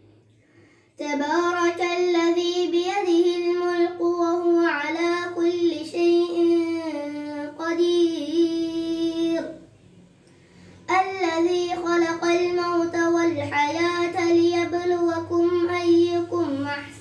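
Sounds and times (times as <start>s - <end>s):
boy chanting melodically: 1.0s - 9.7s, 10.8s - 17.0s.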